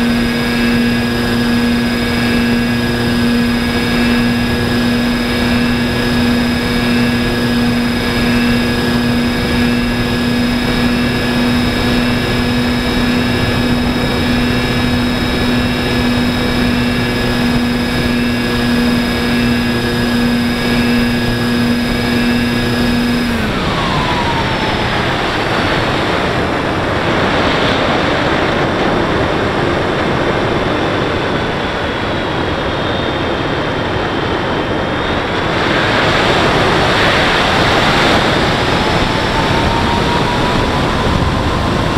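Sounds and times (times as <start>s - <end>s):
model airplane motor droning: 0.0s - 41.9s
wind rushing over airframe: 0.0s - 41.9s.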